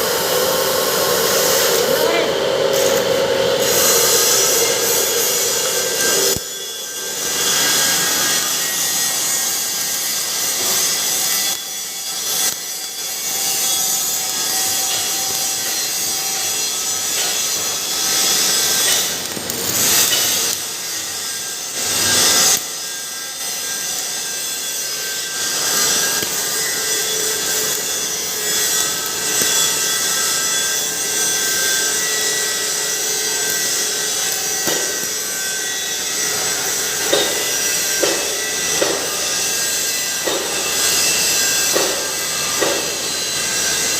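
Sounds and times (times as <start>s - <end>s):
welding hiss: 0.0s - 43.9s.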